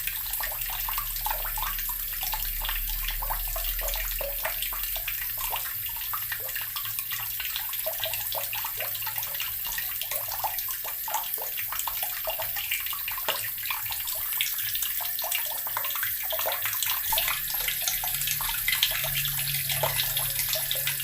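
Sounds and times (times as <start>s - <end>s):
tap water gurgling into barrel: 0.0s - 21.0s.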